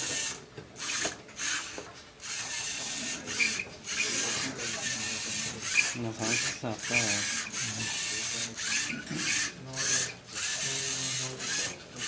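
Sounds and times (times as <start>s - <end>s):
robot servo motors whirring: 0.0s - 12.0s.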